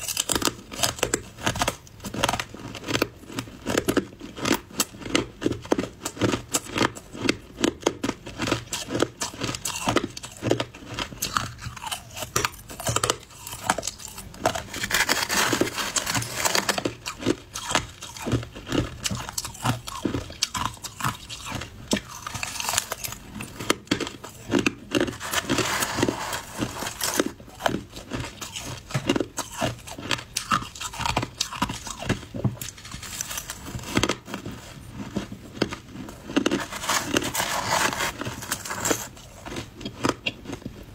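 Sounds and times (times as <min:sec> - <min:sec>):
crunching shaved ice: 0:00.0 - 0:34.5, 0:35.6 - 0:40.7.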